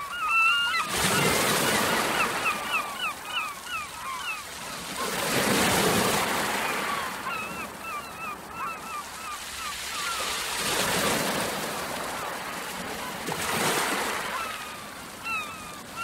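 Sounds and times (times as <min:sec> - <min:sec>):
birds calling: 0:00.0 - 0:10.5, 0:12.2 - 0:16.0
surf washing over rocks: 0:00.0 - 0:16.0.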